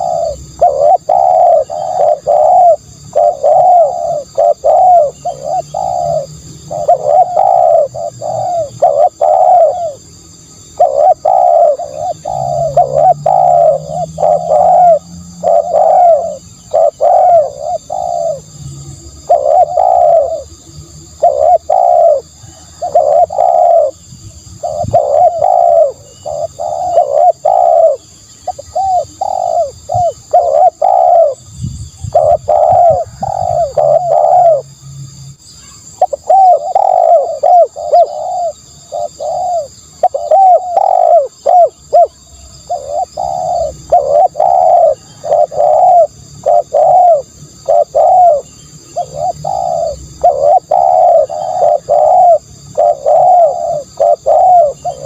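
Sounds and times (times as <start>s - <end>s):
dove cooing: 0.0s - 34.8s, 35.6s - 55.0s.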